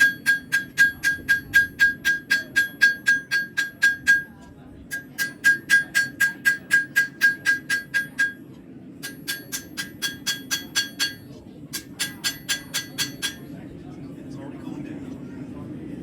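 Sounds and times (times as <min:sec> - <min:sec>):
hammer striking blade on anvil: 0:00.0 - 0:13.6.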